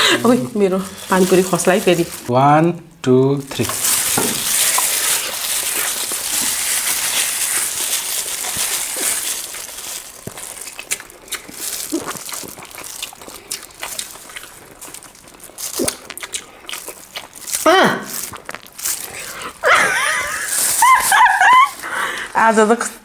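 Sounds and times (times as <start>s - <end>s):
crisp shells crunching while chewing: 0.0s - 2.3s, 3.4s - 22.4s.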